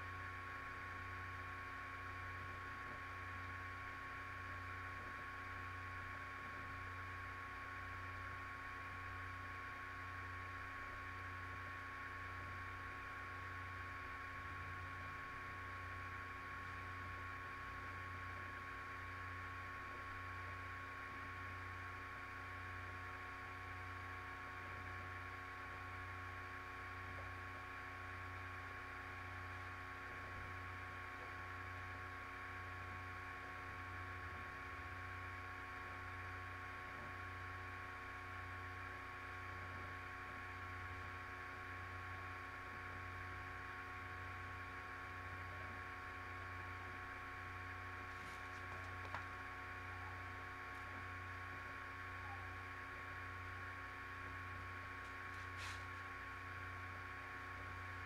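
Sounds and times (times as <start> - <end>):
electrical hum and hiss: 0.0 - 58.0
low pulsing hum: 0.0 - 58.0.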